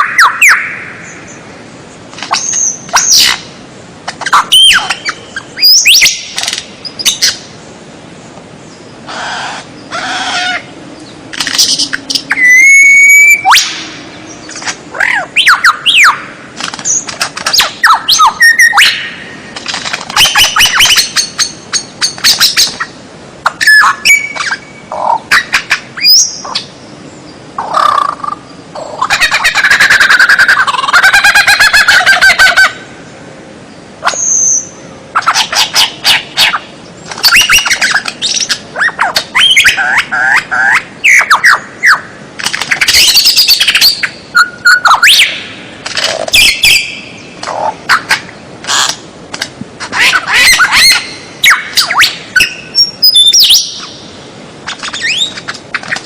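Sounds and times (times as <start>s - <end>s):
songbird singing: 0.0s - 49.2s, 49.8s - 56.0s.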